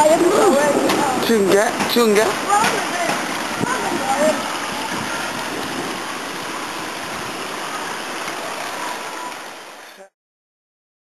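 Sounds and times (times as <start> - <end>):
heavy rain pouring: 0.0 - 10.1.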